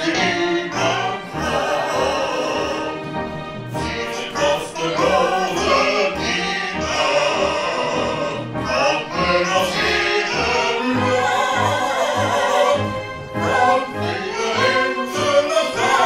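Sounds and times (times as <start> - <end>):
choir singing with orchestra: 0.0 - 16.0.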